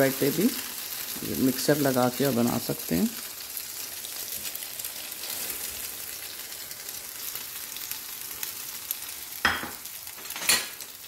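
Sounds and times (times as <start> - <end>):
bread frying in oil: 0.0 - 11.0.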